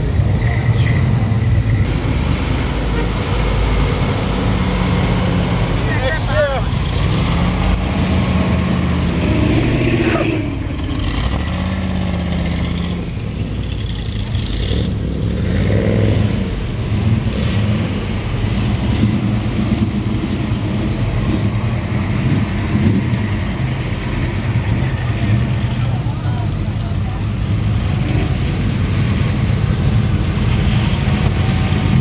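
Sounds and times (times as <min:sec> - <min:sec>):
car engines driving past: 0:00.0 - 0:32.0.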